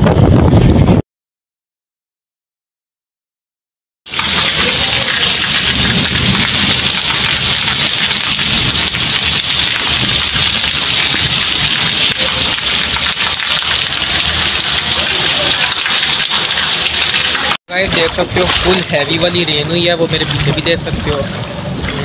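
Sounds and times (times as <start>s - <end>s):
heavy rain on pavement: 4.1s - 22.0s.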